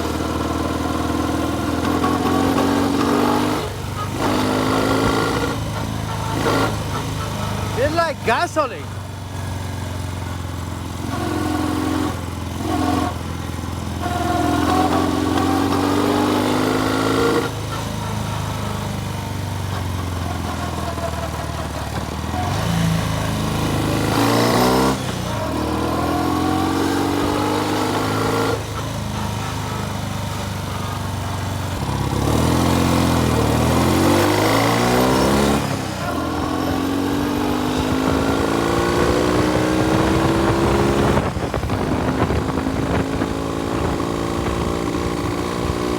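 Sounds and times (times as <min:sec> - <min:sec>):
motorcycle engine revving: 0:00.0 - 0:08.1, 0:08.9 - 0:45.9.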